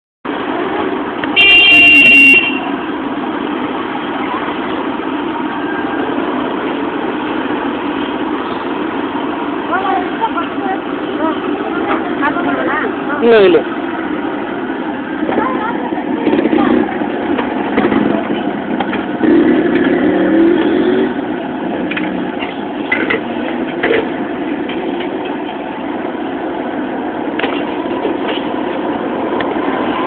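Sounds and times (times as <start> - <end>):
street traffic: 0.2 - 30.0
vehicle passing loudly: 0.3 - 30.0.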